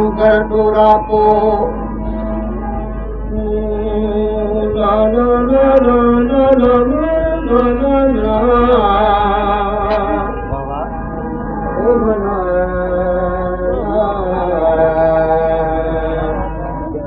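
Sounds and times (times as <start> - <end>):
harmonium: 0.0 - 17.0
man singing long bending notes: 0.0 - 17.0.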